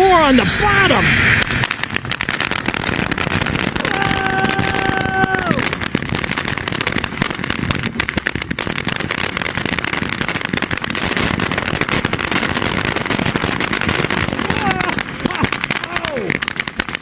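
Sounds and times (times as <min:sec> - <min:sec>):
firework crackling pops: 0:00.0 - 0:17.0.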